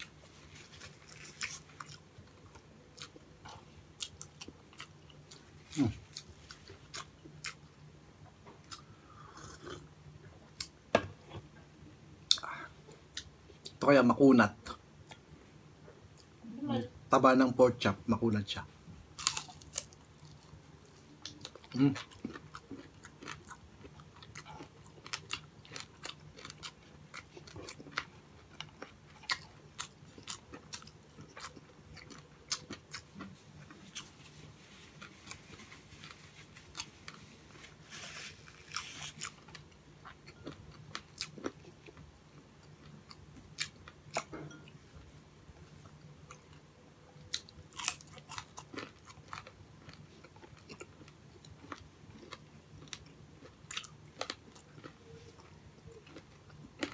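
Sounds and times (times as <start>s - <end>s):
chewing crispy food: 0.0s - 10.8s, 19.1s - 44.6s, 45.6s - 56.9s
faint low hum: 0.0s - 56.9s.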